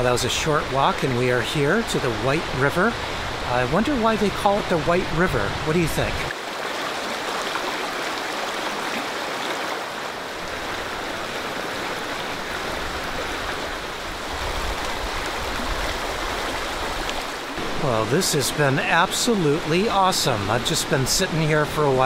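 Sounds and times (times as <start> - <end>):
river rushing over stones: 0.0 - 22.0.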